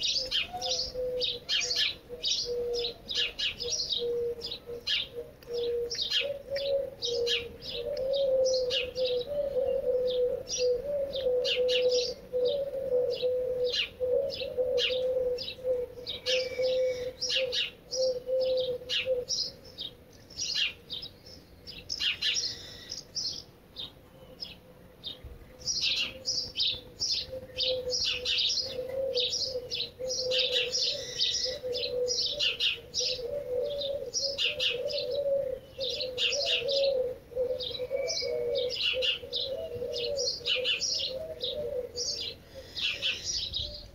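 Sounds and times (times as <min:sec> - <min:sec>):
pigeon cooing: 0:00.0 - 0:21.1, 0:25.2 - 0:43.9
songbirds chirping: 0:00.0 - 0:43.9.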